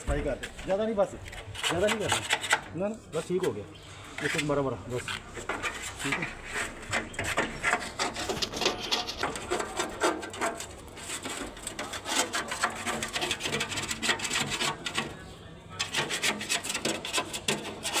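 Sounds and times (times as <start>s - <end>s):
rubbing strokes on metal casing: 1.2s - 3.6s, 4.2s - 15.2s, 15.8s - 18.0s.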